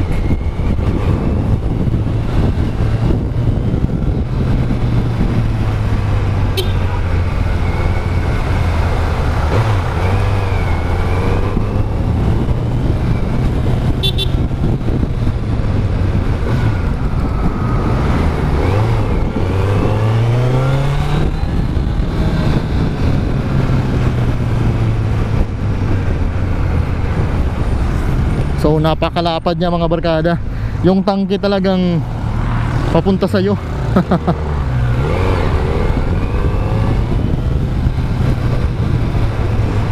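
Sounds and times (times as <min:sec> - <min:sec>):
motorcycle engine revving: 0:00.0 - 0:28.8, 0:31.4 - 0:39.9
wind noise: 0:00.0 - 0:39.9.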